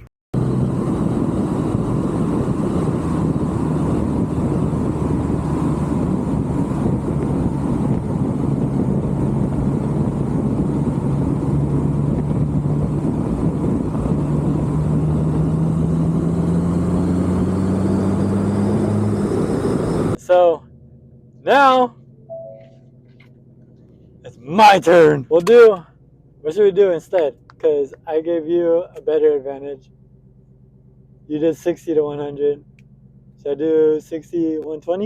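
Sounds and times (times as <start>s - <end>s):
car engine hum: 0.0s - 35.0s
road and wind noise: 0.0s - 35.0s.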